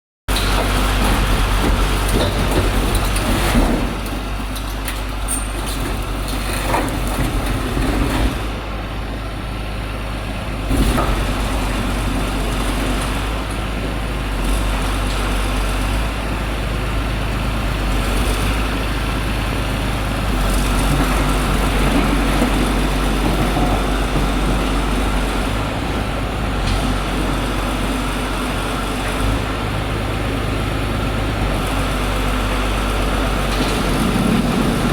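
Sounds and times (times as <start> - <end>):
small diesel engine running: 0.3 - 34.9.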